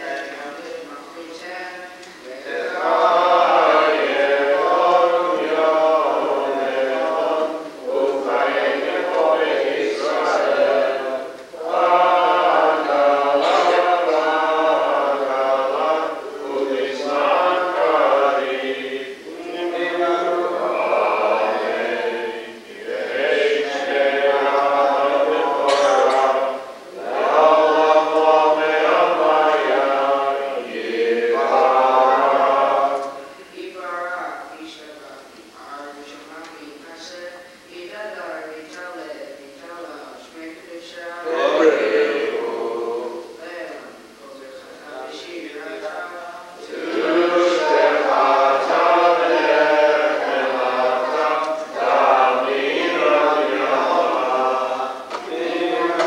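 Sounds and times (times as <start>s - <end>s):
voices singing a prayer together: 0.0s - 56.0s.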